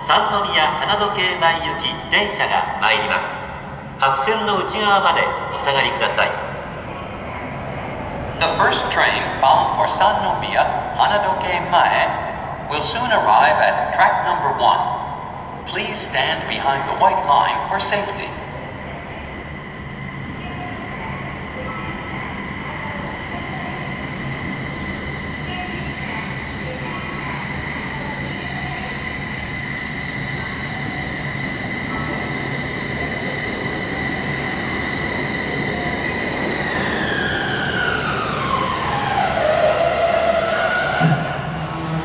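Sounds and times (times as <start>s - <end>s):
train running noise: 0.0s - 42.0s.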